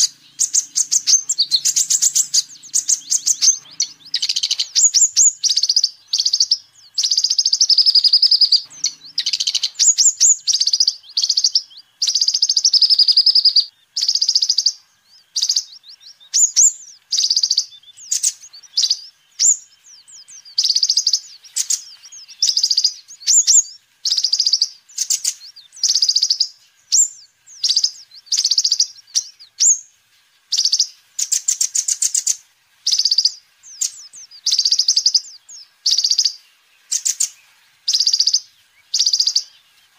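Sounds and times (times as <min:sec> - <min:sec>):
bird singing high trills: 0:00.0 - 0:29.9, 0:30.5 - 0:39.9.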